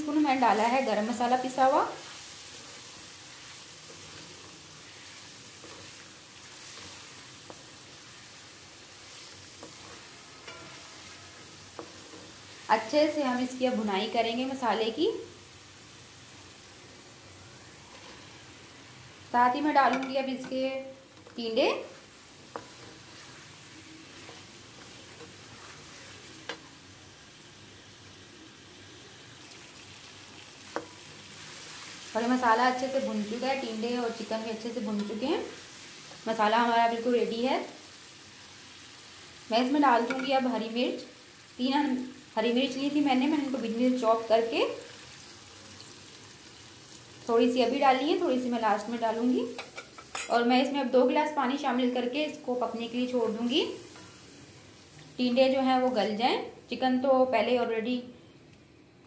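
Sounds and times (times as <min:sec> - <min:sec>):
food sizzling in hot oil: 0:00.0 - 0:57.7.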